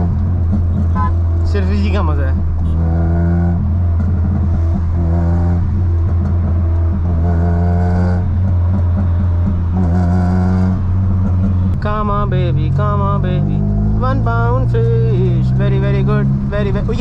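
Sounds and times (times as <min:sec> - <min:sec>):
car engine and exhaust droning: 0:00.0 - 0:17.0.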